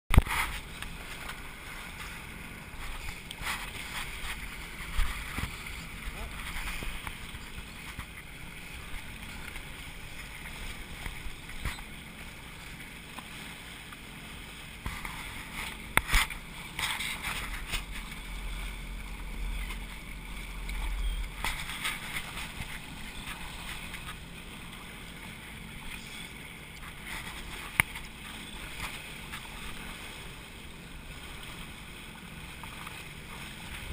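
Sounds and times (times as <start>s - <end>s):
jet ski engines: 0.1s - 33.9s
water sloshing: 0.1s - 33.9s.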